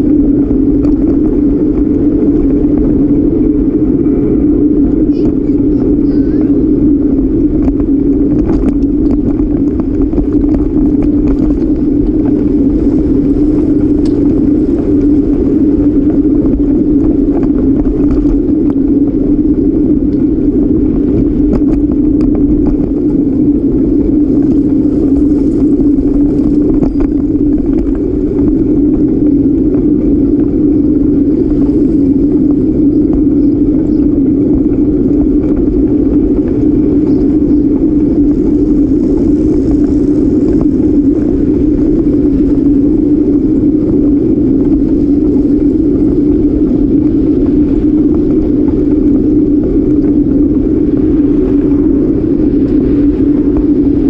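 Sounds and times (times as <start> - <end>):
bicycle rattles and clicks: 0.0 - 54.0.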